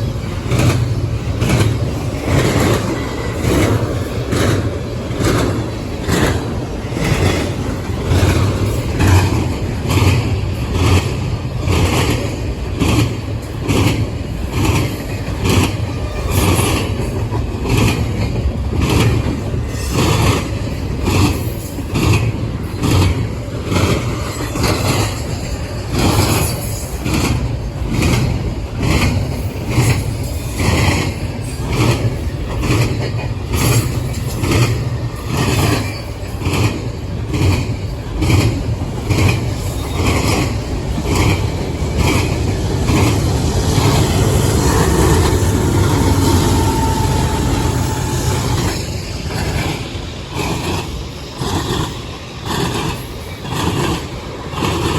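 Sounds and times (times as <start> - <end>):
low train rumble: 0.0 - 54.9
train wheels clicking over rail joints: 0.0 - 54.9.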